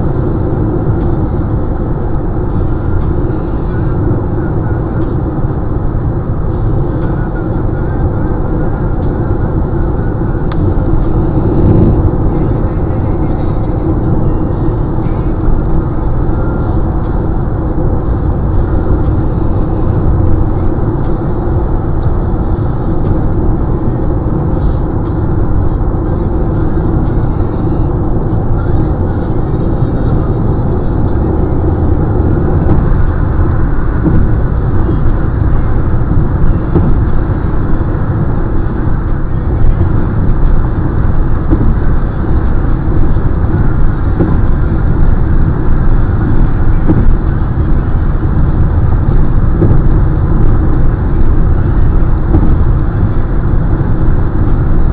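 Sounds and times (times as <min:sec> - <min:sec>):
car road noise from inside: 0:00.0 - 0:54.9.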